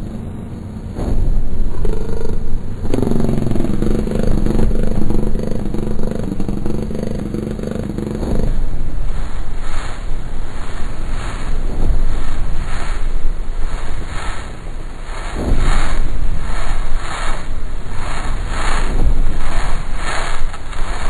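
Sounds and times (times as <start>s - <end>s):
droning noise music: 0.0s - 21.0s
low rumble with held tone: 0.0s - 21.0s.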